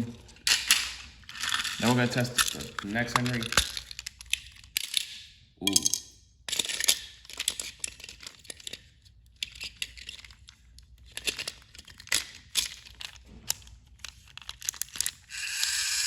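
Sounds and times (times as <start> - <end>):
plastic toy train clicks and rattling: 0.5 - 16.0.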